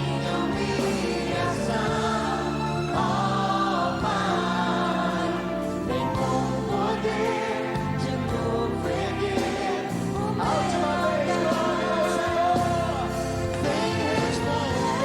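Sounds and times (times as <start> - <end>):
sustained instrumental accompaniment: 0.0 - 15.0
voices singing with choir backing: 0.0 - 15.0.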